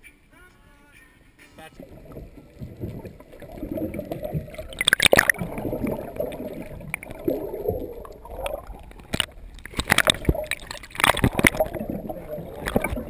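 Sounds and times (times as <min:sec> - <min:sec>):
muffled underwater gurgling: 0:01.6 - 0:13.0.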